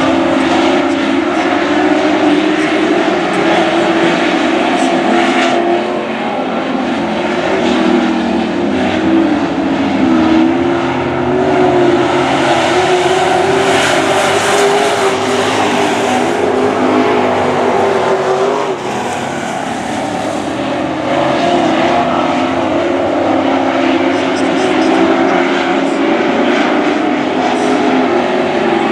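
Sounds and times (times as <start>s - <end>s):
race truck engines droning: 0.0s - 28.9s.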